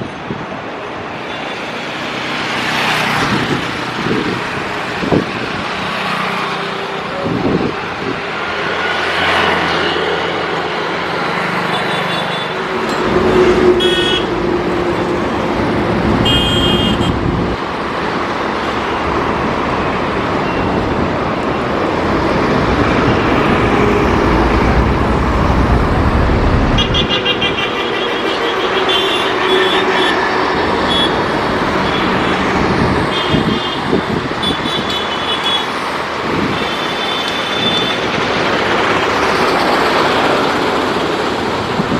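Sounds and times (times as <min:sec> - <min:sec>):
road traffic: 0:00.0 - 0:41.9.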